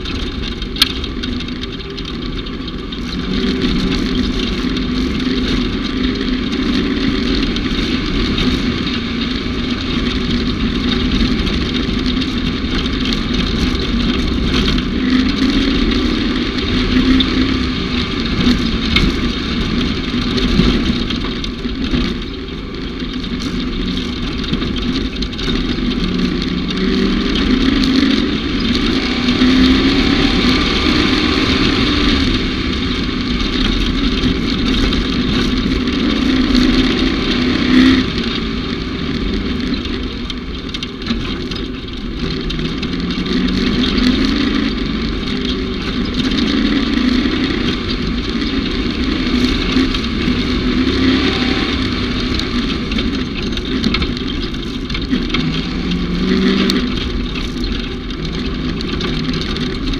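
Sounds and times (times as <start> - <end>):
utility vehicle engine running: 0.0 - 59.9.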